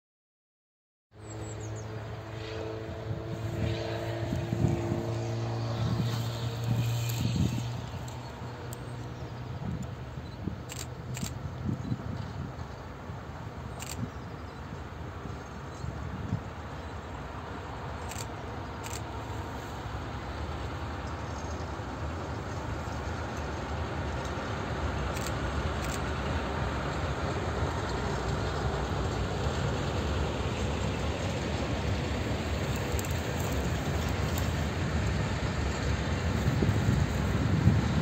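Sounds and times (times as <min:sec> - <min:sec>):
diesel locomotive running: 0:01.2 - 0:38.0.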